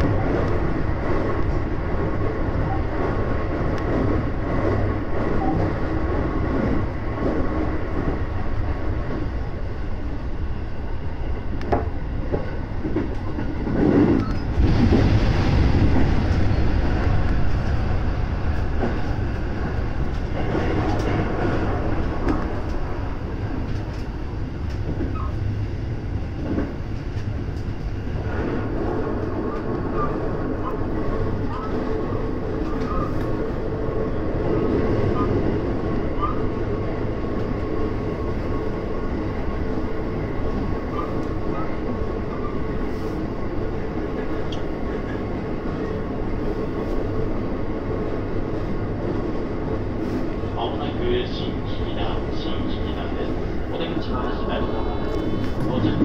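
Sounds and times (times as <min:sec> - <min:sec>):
train wheel-on-rail rumble: 0:00.0 - 0:56.0.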